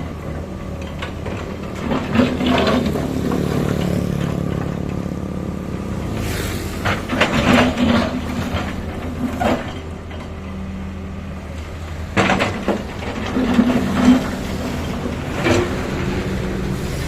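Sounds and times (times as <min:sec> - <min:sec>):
diesel excavator running: 0:00.0 - 0:17.0
clattering and scraping: 0:00.3 - 0:05.2, 0:06.1 - 0:10.6, 0:12.0 - 0:17.0.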